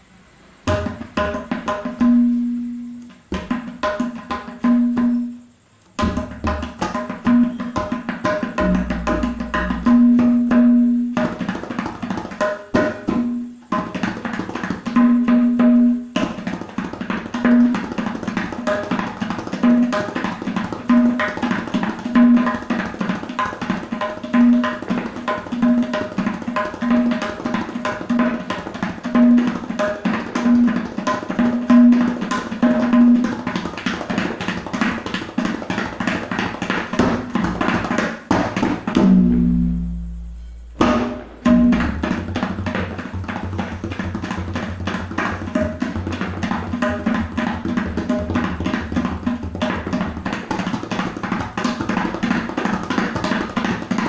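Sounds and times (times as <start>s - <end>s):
tabla playing: 0.7s - 54.0s.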